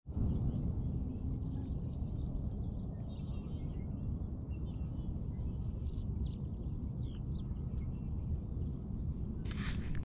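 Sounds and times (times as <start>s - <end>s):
steady low rumble: 0.1s - 10.0s
small birds chirping: 0.3s - 9.9s.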